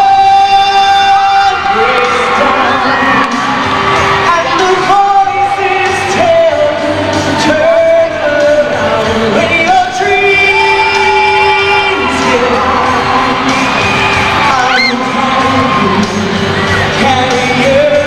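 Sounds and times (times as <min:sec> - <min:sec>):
backing music: 0:00.0 - 0:18.0
man singing into microphone: 0:00.0 - 0:18.0.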